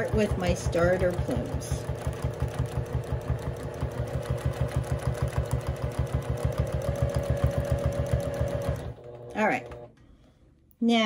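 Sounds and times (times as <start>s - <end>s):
sewing machine running: 0.0s - 9.9s.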